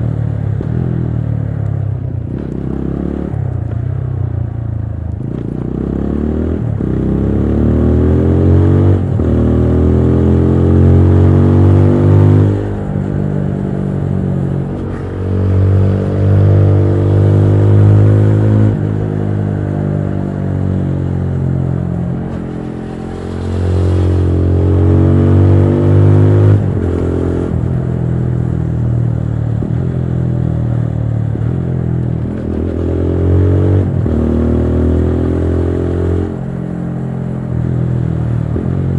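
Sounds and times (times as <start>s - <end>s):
motorcycle engine with gear changes: 0.0s - 38.9s.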